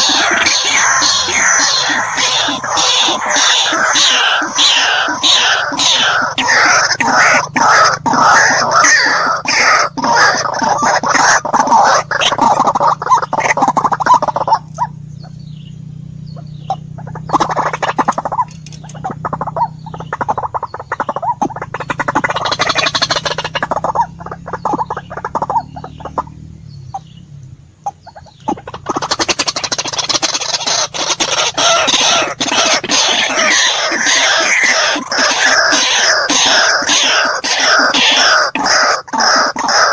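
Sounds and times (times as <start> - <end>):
waterhen calling harsh notes: 0.0 - 15.4, 16.3 - 27.0, 27.8 - 39.9
steady low hum: 0.0 - 39.1.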